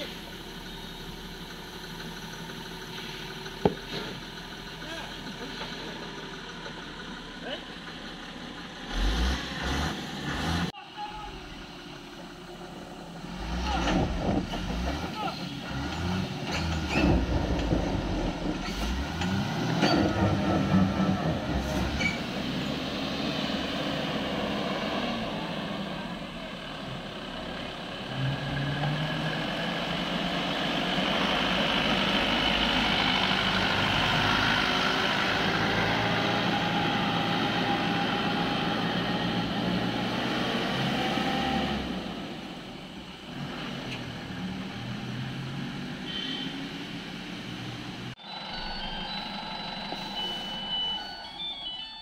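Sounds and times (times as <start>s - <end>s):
lorry diesel engine passing: 0.0s - 52.0s.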